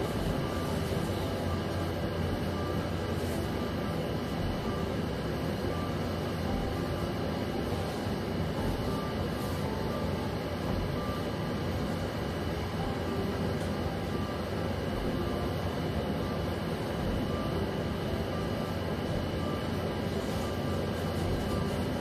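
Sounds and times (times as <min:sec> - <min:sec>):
faint hum: 0:00.0 - 0:22.0
low rumbling background noise: 0:00.0 - 0:22.0.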